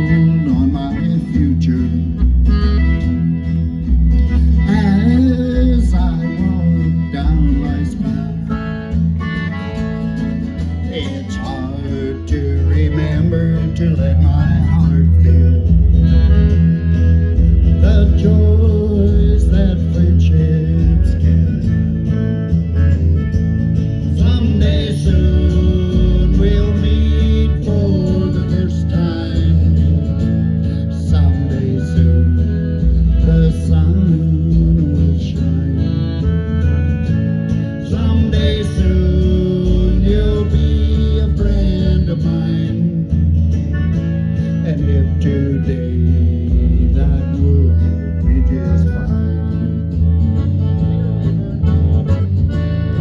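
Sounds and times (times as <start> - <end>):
country band playing live: 0.0 - 53.0.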